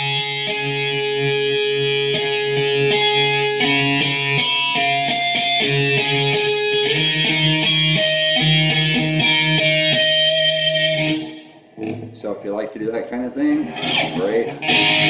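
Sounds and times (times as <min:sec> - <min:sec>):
electric guitar through amp: 0:00.0 - 0:12.8, 0:13.5 - 0:15.0.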